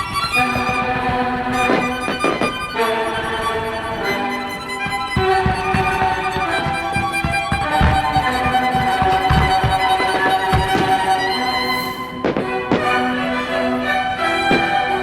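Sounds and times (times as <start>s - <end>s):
violin music: 0.0s - 15.0s.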